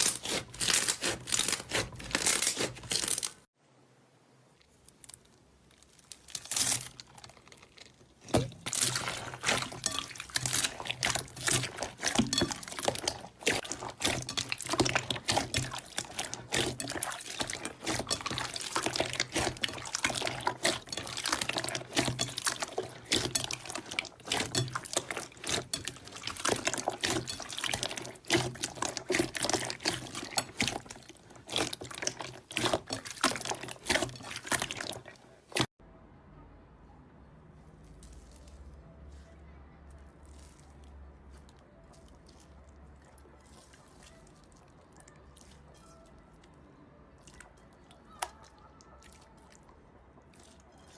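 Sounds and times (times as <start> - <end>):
slime squelching by hand: 0.0 - 3.5, 4.5 - 35.8, 37.6 - 50.9.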